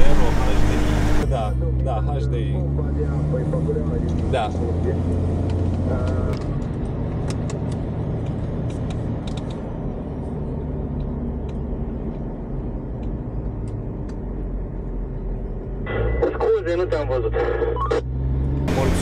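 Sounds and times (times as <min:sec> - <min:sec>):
engine and road drone in car: 0:00.0 - 0:19.0.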